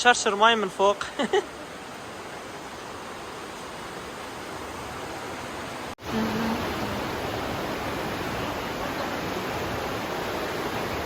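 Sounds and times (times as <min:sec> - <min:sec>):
fast-flowing river water: 0:00.2 - 0:11.0.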